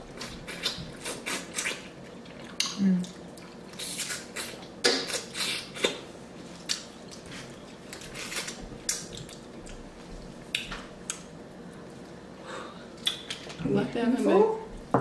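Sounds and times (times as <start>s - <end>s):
chewing and lip-smacking: 0.1s - 6.0s, 6.6s - 12.2s, 13.0s - 13.6s.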